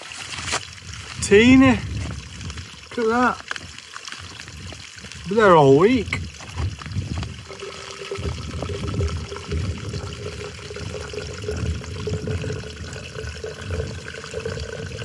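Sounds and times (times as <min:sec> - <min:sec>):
water trickling into plastic bottle: 0:00.0 - 0:15.0.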